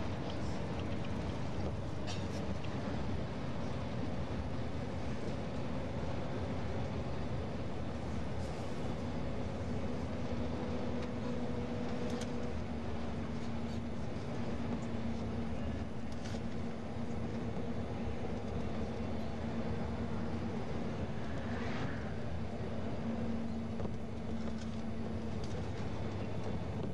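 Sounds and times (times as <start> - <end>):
road noise: 0.0 - 26.9
vehicle engine drone: 0.0 - 26.9.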